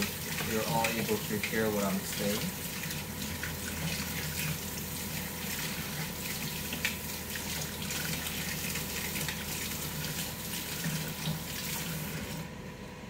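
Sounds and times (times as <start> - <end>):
faucet running into a sink: 0.0 - 12.5
air fryer humming: 0.0 - 13.0.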